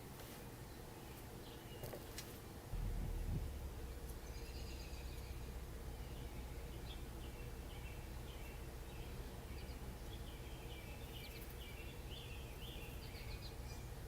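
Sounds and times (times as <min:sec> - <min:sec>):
small birds chirping: 0:00.4 - 0:14.0
low background rumble: 0:02.7 - 0:14.0.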